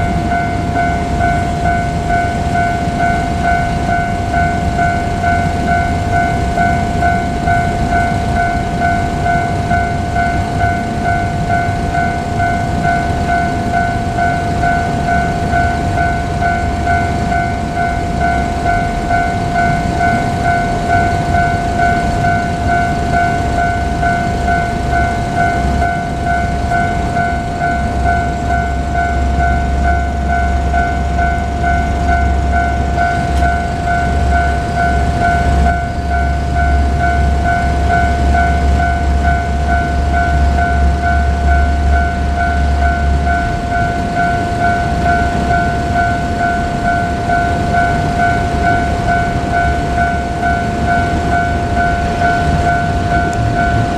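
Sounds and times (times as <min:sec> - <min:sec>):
diesel railcar rumble: 0:00.0 - 0:53.9
level crossing alarm ringing: 0:00.0 - 0:53.9.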